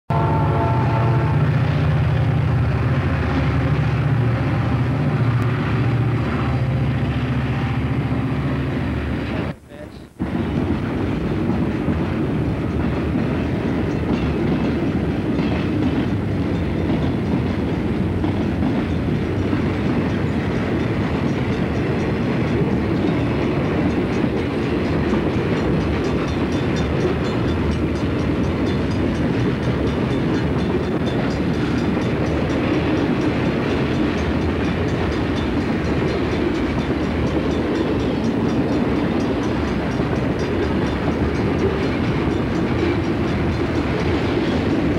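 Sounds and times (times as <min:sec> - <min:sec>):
train wheels rumbling on rails: 0:00.1 - 0:44.9.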